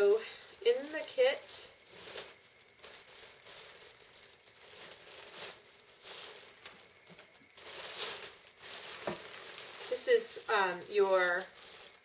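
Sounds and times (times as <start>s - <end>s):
plastic bag crinkling: 0.0s - 12.0s
raffia tie rustling: 0.0s - 12.0s.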